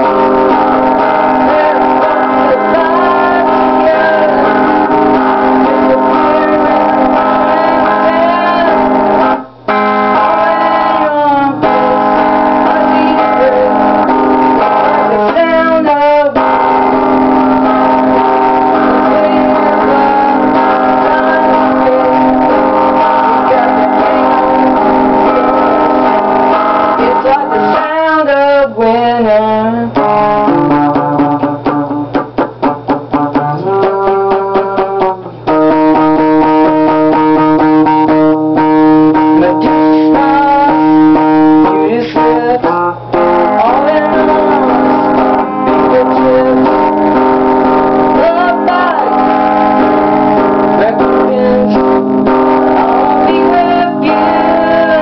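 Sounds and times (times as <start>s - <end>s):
instrumental rock guitar music: 0.0s - 55.0s.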